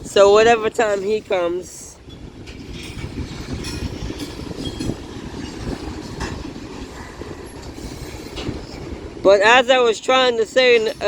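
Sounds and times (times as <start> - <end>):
train cars clacking and knocking: 0.0 - 11.0
train wheels rumbling on rails: 0.0 - 11.0.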